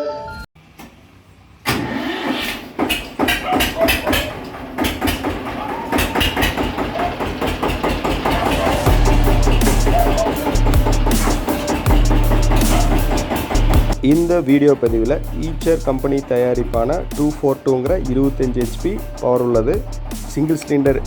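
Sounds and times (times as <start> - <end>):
tractor diesel engine knocking: 2.8 - 21.0.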